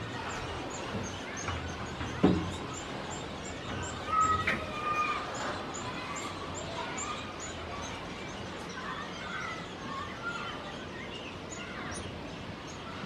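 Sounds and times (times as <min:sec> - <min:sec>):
nestlings peeping: 0:00.0 - 0:13.0.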